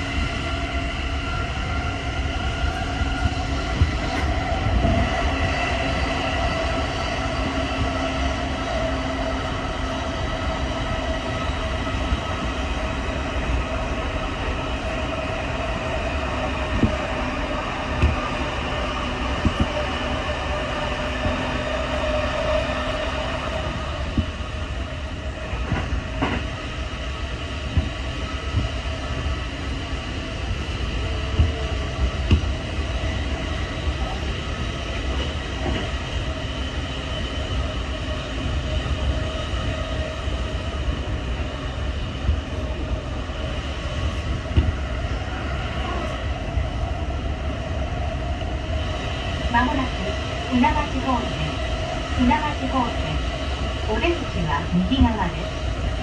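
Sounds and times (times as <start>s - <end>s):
train running rumble and hiss: 0.0s - 56.0s.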